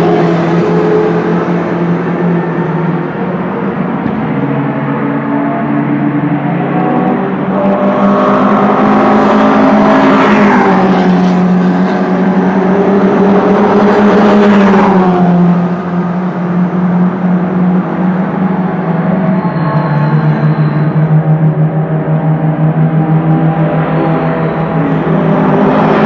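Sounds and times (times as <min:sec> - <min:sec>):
sports cars racing past: 0:00.0 - 0:26.0.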